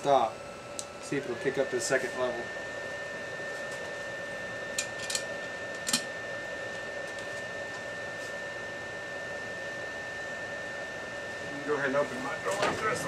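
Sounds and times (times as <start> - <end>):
fan whining: 0.0 - 13.0.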